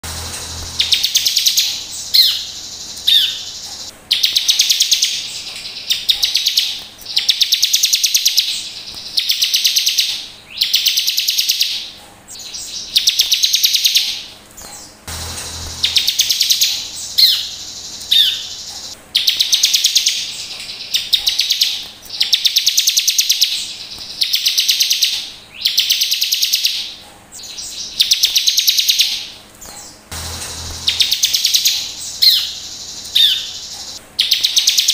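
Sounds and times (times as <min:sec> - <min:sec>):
bird singing trilled phrases: 0:00.7 - 0:15.1, 0:15.8 - 0:30.1, 0:30.7 - 0:34.9.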